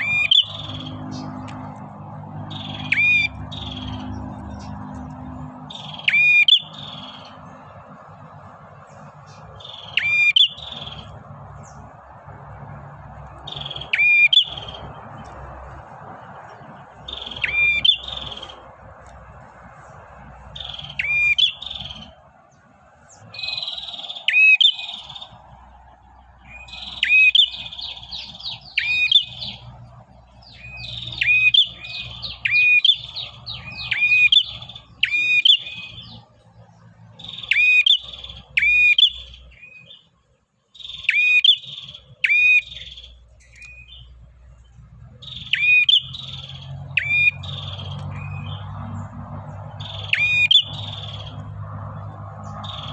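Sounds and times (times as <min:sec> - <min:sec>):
bird chirping song: 0:00.0 - 0:52.9.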